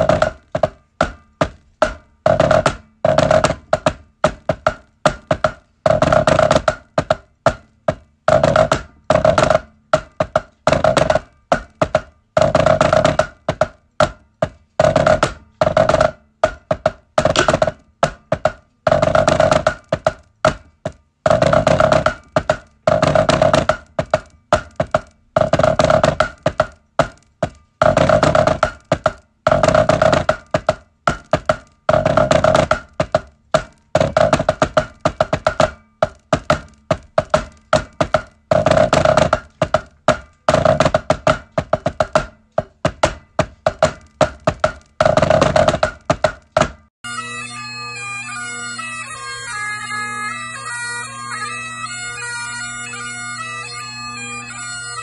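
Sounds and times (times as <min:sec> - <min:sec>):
drumsticks on practice pad: 0:00.0 - 0:46.9.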